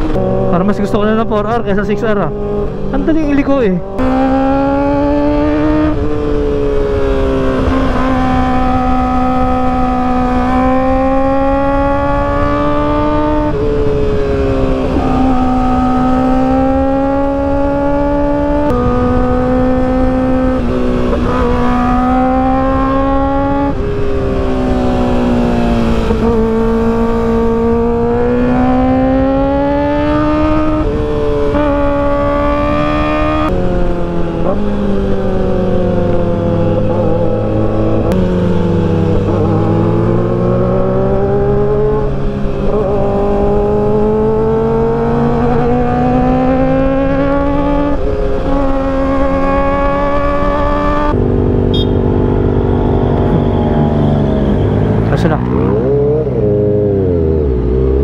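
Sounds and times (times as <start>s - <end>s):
motorcycle engine revving: 0.0s - 58.0s
wind rush: 1.3s - 57.6s.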